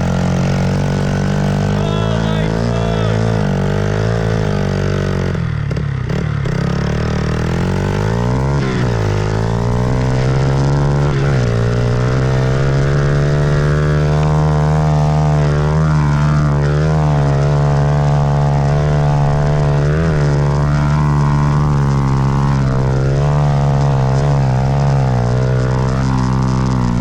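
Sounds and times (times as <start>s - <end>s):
dirt bike engine drone: 0.0s - 27.0s.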